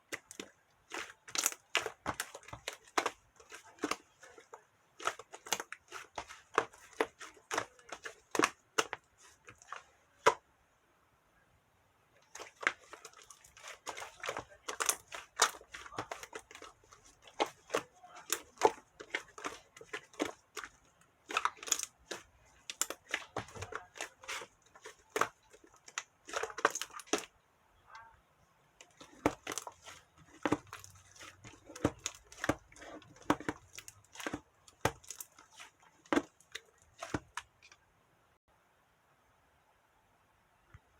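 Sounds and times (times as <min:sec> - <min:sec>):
slime kneaded and stretched by hand: 0:00.0 - 0:10.5, 0:12.2 - 0:27.3, 0:28.8 - 0:37.7.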